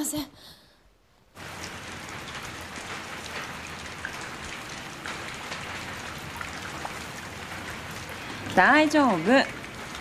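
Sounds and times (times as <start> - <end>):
raindrops ticking on surfaces: 1.3 - 10.0
steady rain falling: 1.3 - 10.0.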